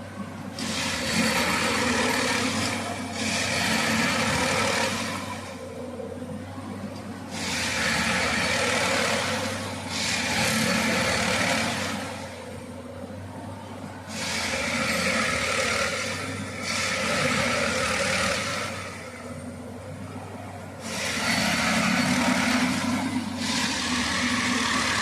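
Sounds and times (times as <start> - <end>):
diesel engine hum: 0.0 - 25.0
hissing machine working noise: 0.0 - 25.0.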